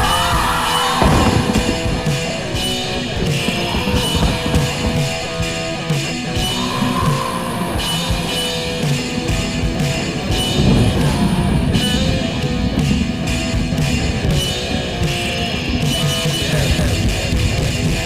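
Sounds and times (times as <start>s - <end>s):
drum kit: 0.0s - 18.0s
electric guitar riffing: 0.0s - 18.0s.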